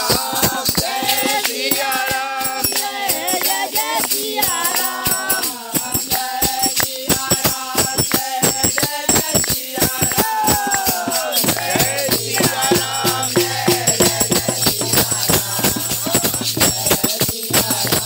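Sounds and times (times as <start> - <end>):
group singing a chant: 0.0 - 18.0
hand drum beat: 0.0 - 18.0
jingling metal percussion: 0.0 - 18.0.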